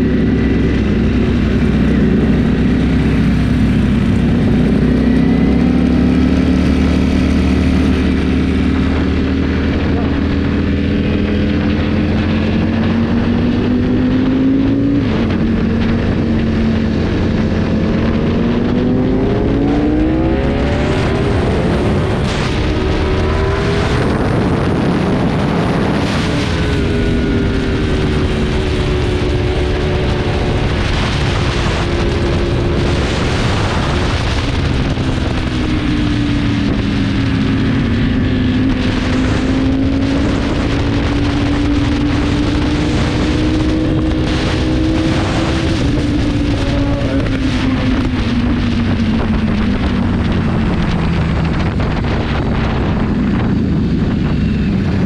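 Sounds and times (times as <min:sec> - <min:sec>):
motorcycle engine revving: 0:00.0 - 0:55.0
wind rushing over microphone: 0:00.0 - 0:55.0.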